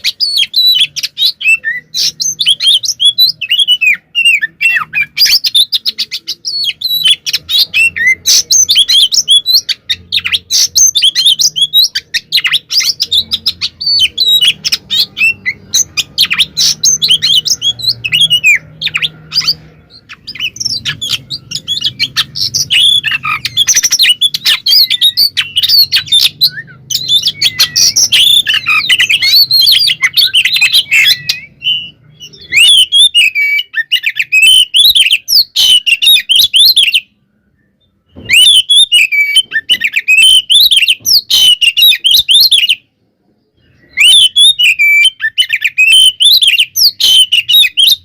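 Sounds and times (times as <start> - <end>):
songbird whistling and trilling: 0.0 - 42.9, 43.5 - 48.0.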